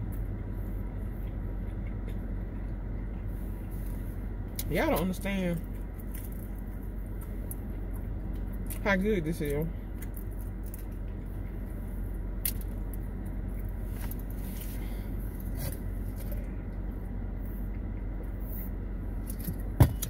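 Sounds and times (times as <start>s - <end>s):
car engine hum: 0.0s - 20.0s.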